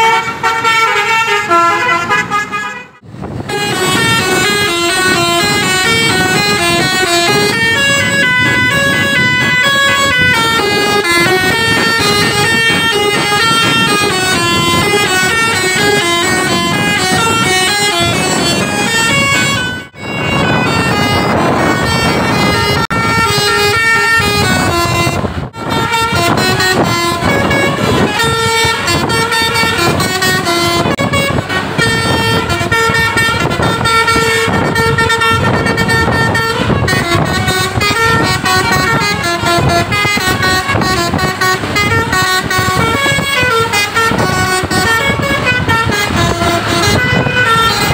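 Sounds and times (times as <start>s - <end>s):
multi-tone bus air horns: 0.0s - 47.9s.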